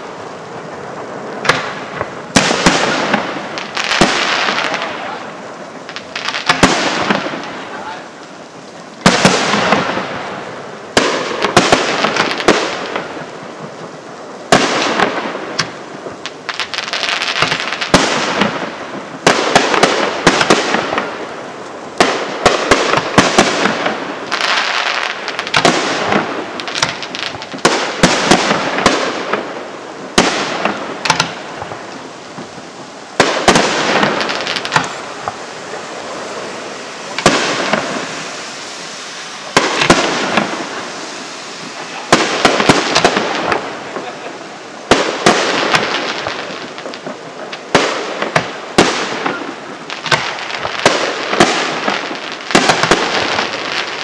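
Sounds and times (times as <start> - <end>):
firework crackling: 0.0 - 54.0
firework shells bursting: 9.0 - 21.3, 22.0 - 54.0.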